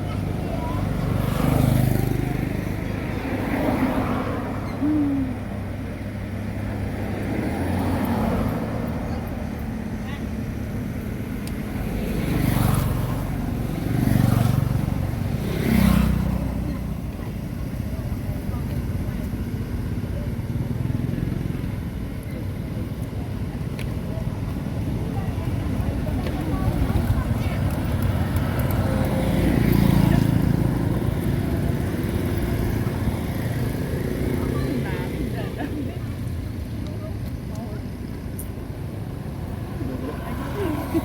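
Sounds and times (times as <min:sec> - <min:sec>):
passing vehicle engine rumble: 0:00.0 - 0:41.0.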